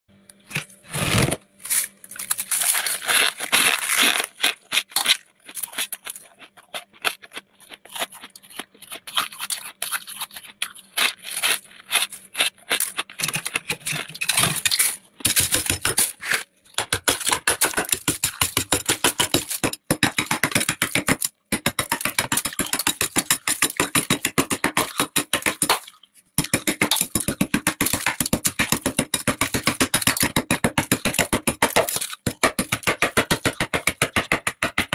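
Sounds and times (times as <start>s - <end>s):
frost being scraped in freezer: 0.5s - 30.2s.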